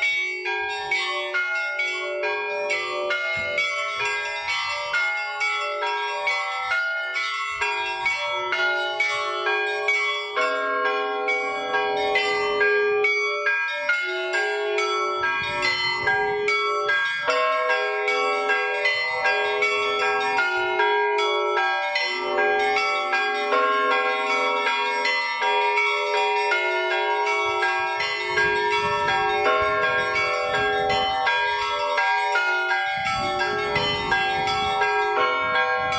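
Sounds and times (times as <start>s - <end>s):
church bells ringing: 0.0s - 35.9s.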